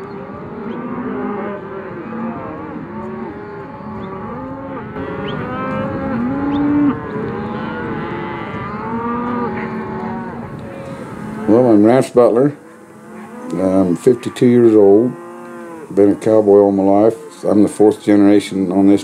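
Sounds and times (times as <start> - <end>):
cattle mooing: 0.0 - 19.0.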